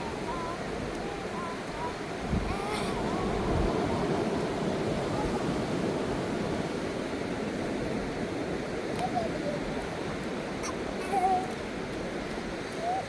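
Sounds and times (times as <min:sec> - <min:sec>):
surf breaking on sandy beach: 0:02.1 - 0:12.7.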